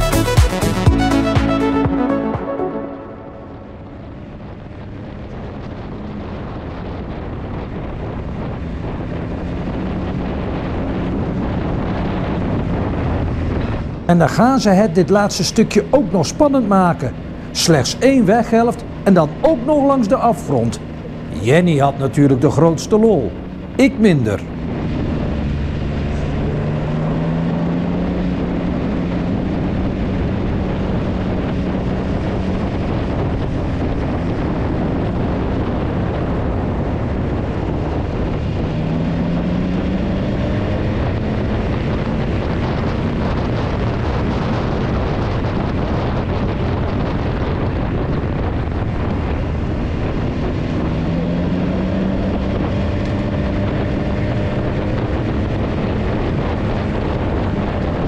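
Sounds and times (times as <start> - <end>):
motorcycle engine accelerating: 0.0 - 14.1, 15.6 - 58.0
wind noise on microphone: 3.0 - 58.0.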